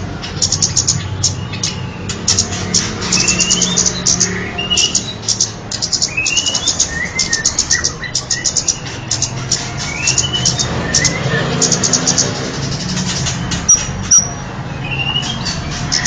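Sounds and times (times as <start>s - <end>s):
bird chattering clicks and whistles: 0.2s - 16.0s.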